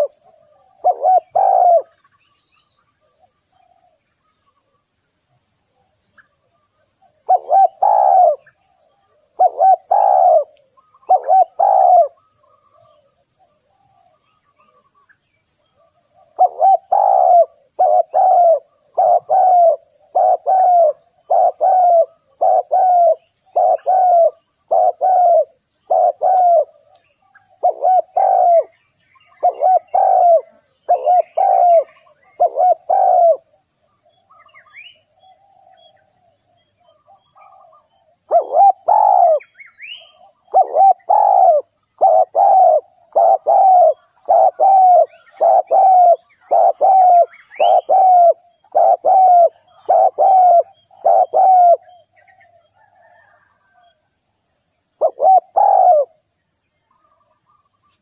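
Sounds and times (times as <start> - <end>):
dove cooing: 0.0 - 2.1, 7.0 - 14.9, 15.8 - 33.6, 34.3 - 54.0, 55.0 - 56.2.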